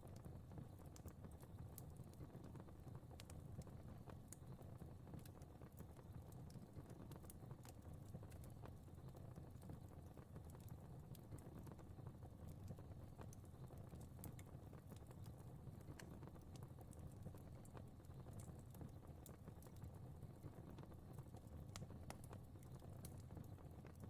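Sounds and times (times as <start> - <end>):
low rumble of burning: 0.0 - 24.0
fire crackling and popping: 0.1 - 24.0.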